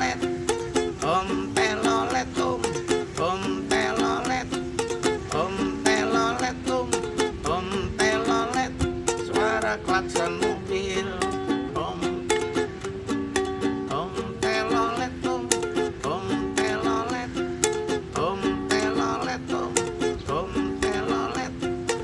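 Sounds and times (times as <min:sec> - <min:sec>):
plucked strings strumming: 0:00.0 - 0:22.0.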